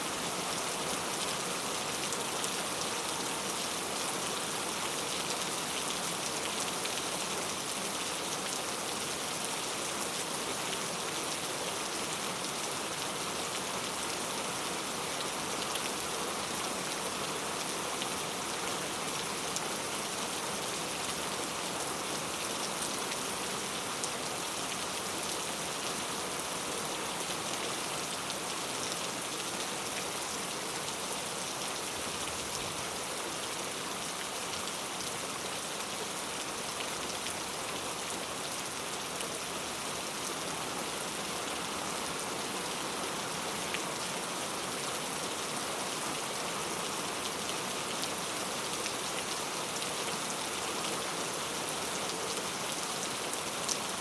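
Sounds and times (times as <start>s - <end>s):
heavy rain on street: 0.0s - 54.0s.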